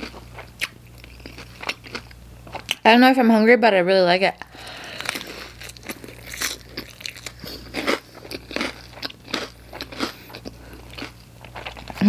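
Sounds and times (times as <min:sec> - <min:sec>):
person chewing crunchy food: 0:00.0 - 0:02.8, 0:04.6 - 0:12.0.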